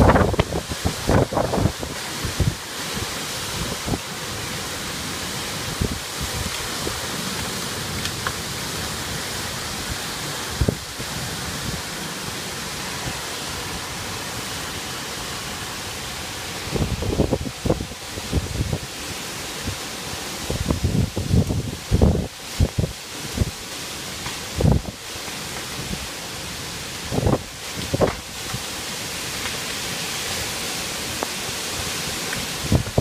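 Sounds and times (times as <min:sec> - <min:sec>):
wind gusts on microphone: 0:00.0 - 0:04.2, 0:05.4 - 0:23.7, 0:24.4 - 0:25.1, 0:26.8 - 0:28.7, 0:31.2 - 0:33.0
heavy rain pouring: 0:00.0 - 0:33.0.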